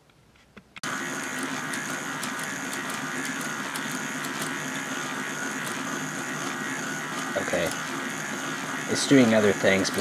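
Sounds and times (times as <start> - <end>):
small electric motor running: 0.8 - 10.0.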